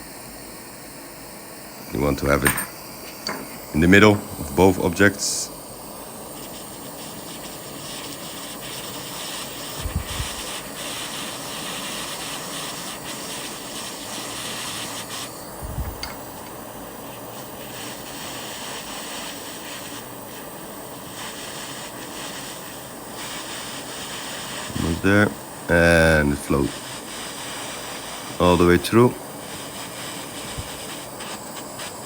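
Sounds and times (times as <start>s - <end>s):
torch flame hissing: 0.0s - 32.0s.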